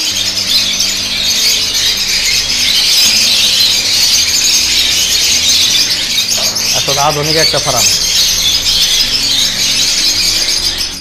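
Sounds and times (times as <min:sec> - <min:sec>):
lovebirds screeching and chattering: 0:00.0 - 0:11.0.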